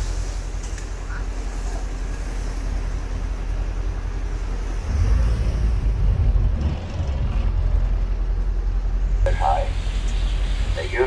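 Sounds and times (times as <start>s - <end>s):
low rumble: 0.0s - 10.8s
water noise: 0.0s - 11.0s.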